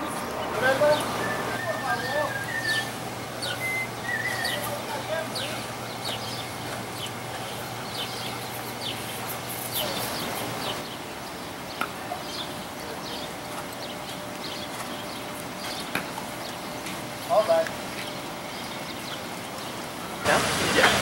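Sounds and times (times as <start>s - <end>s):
small birds chirping: 0.0s - 20.9s
outdoor background noise: 0.0s - 21.0s.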